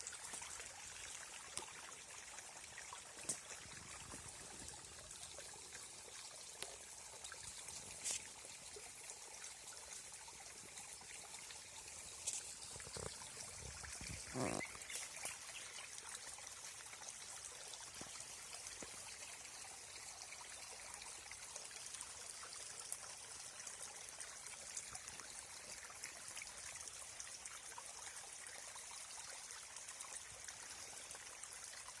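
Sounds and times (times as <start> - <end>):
water trickling: 0.0 - 32.0.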